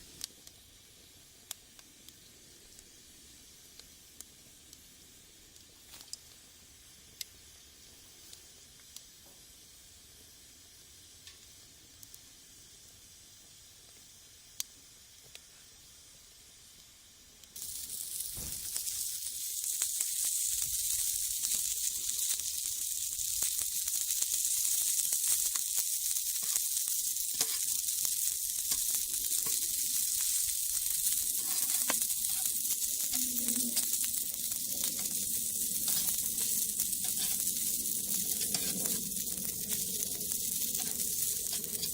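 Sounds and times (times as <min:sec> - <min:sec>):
fish sizzling on a grill: 0:00.0 - 0:41.9.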